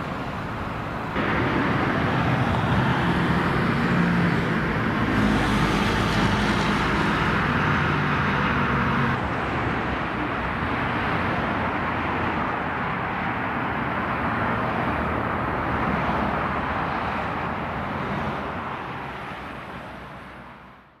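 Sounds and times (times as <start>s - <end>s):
expressway traffic rushing: 0.0s - 21.0s.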